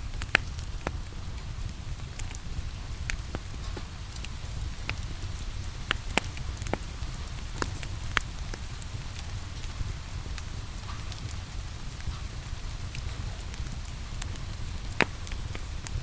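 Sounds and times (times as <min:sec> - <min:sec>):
rain falling: 0:00.0 - 0:16.0
wood fire crackling: 0:00.0 - 0:16.0.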